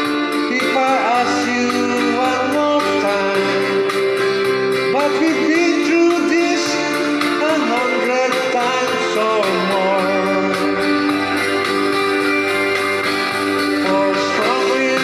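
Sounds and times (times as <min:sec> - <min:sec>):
person singing: 0:00.0 - 0:12.8, 0:13.4 - 0:15.0
guitar accompaniment: 0:00.0 - 0:15.0.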